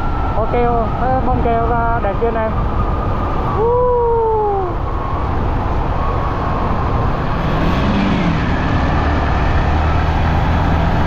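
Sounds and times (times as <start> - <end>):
wind rushing: 0.0 - 11.0.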